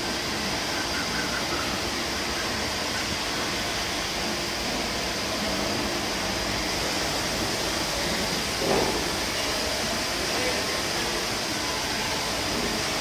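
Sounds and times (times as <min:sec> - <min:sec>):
grinding machine hum and hiss: 0:00.0 - 0:13.0
high machine whine: 0:00.0 - 0:13.0.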